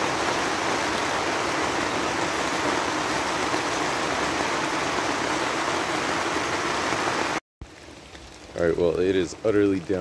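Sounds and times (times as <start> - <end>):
heavy rain on tent fabric: 0.0 - 10.0.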